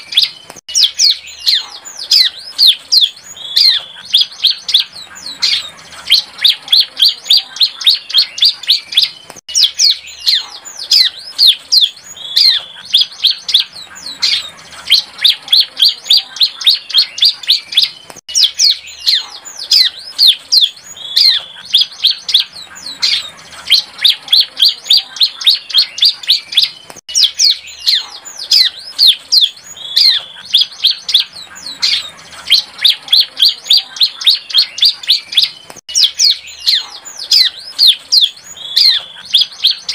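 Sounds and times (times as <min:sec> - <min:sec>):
bird singing sharp high chirps: 0:00.0 - 0:39.9.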